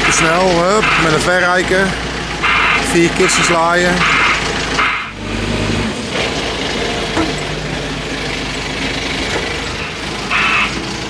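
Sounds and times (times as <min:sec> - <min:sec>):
telehandler engine running: 0:00.0 - 0:11.0.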